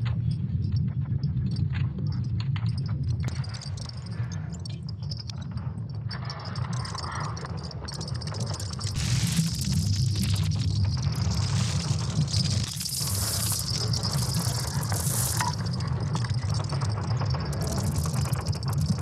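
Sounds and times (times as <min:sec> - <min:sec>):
crackles: 0:00.0 - 0:19.0
high glittering ticks: 0:02.6 - 0:19.0.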